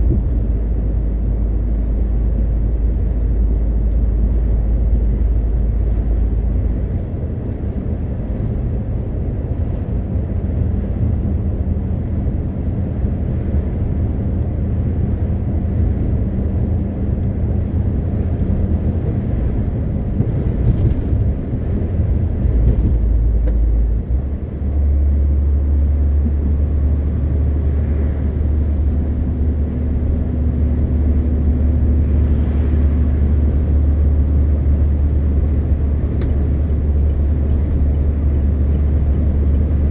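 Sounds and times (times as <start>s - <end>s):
road noise: 0.0s - 39.9s
truck diesel engine running: 5.1s - 39.9s.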